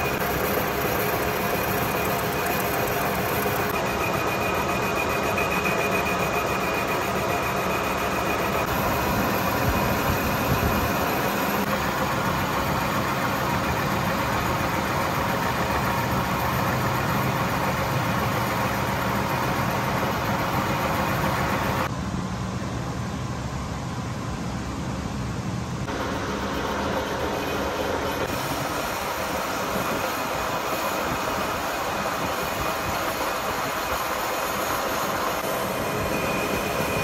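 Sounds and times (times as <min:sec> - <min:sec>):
metal lathe whirring: 0:00.0 - 0:21.9, 0:25.9 - 0:37.0.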